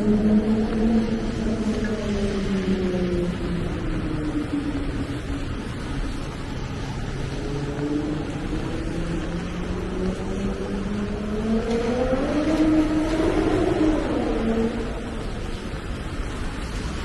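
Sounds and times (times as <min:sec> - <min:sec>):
rain on wet street: 0:00.0 - 0:17.0.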